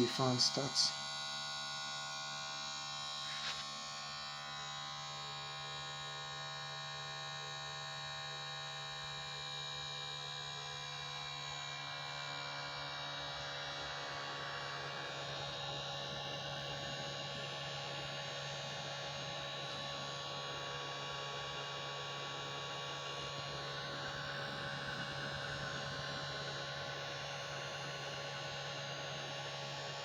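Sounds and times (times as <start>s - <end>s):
electric fan humming and whirring: 0.0s - 6.5s, 9.1s - 30.0s.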